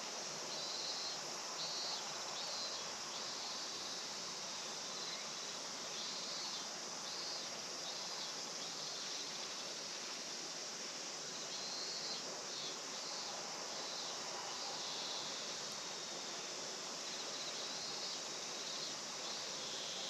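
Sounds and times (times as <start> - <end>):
insects chirping: 0.0 - 20.0
low even hiss: 0.0 - 20.0.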